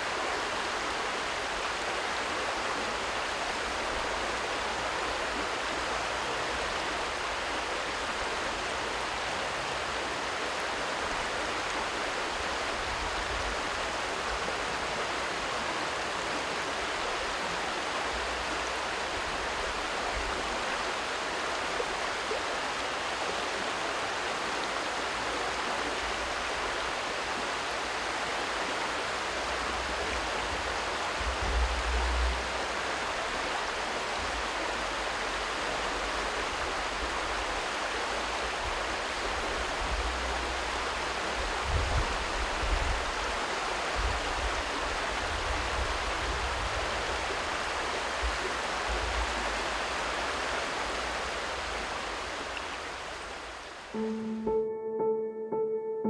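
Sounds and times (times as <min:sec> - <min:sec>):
river water rushing: 0:00.0 - 0:54.6.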